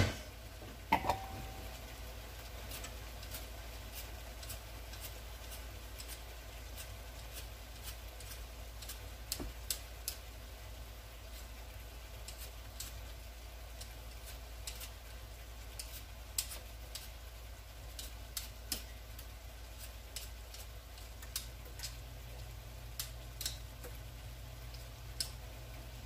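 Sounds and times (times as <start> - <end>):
steady low hum: 0.0 - 26.0
potato peeling scrapes: 2.3 - 23.9.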